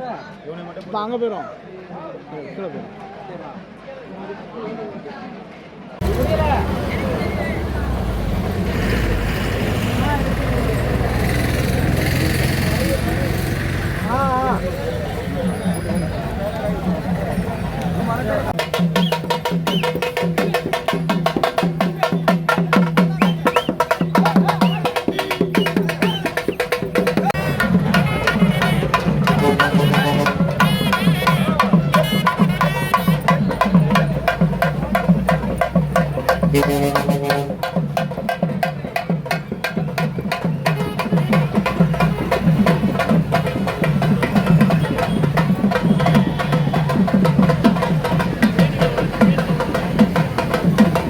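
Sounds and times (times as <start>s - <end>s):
crowd voices: 1.4s - 51.0s
fast procession drumming: 6.0s - 51.0s.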